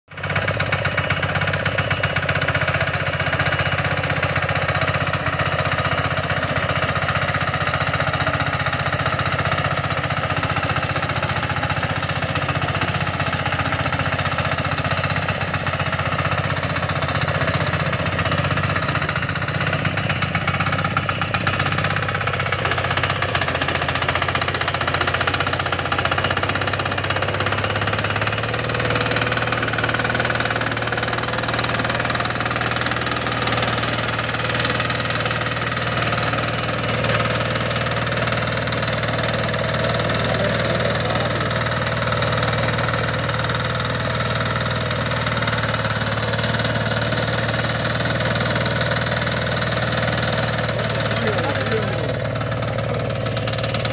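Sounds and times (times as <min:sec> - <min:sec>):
diesel engine running: 0:00.1 - 0:53.9
rotary tines churning soil: 0:00.1 - 0:53.9.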